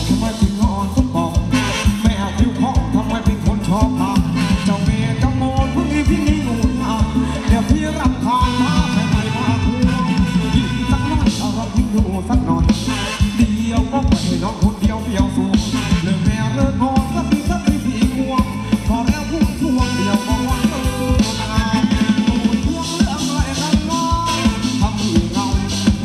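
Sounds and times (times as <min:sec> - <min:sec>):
live band playing dance music: 0:00.0 - 0:26.0
person singing: 0:00.0 - 0:26.0
steady drum beat: 0:00.0 - 0:26.0.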